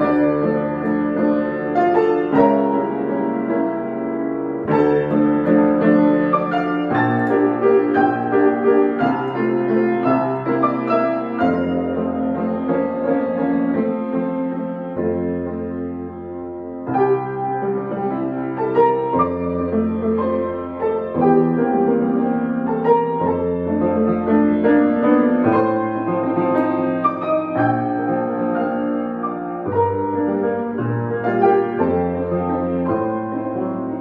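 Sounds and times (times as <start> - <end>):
solo piano piece: 0.0 - 34.0.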